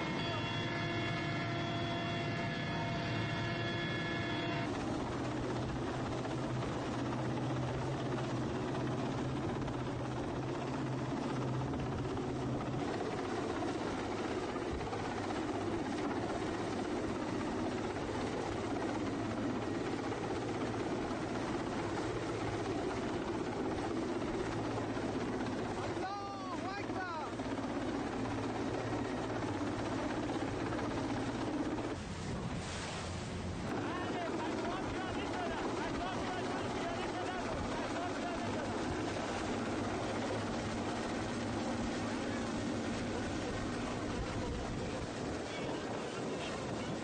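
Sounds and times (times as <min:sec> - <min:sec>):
helicopter rotor and engine: 0:00.0 - 0:32.5, 0:33.3 - 0:47.0.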